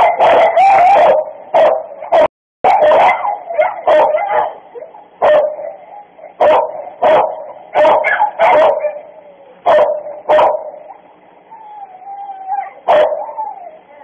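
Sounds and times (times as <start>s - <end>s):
dogs barking excitedly: 0.0s - 14.0s.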